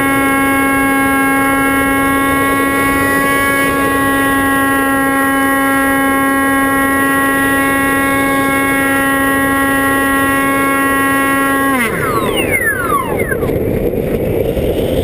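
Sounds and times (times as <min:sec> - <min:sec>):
high-pitched motor whine: 0:00.0 - 0:15.0
wind rush: 0:00.0 - 0:15.0.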